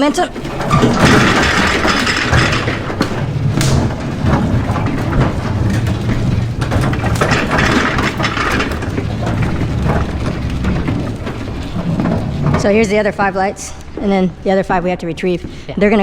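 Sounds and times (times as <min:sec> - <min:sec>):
scissor lift rolling rumble: 0:00.0 - 0:15.1
knocks and rattles: 0:00.0 - 0:16.0.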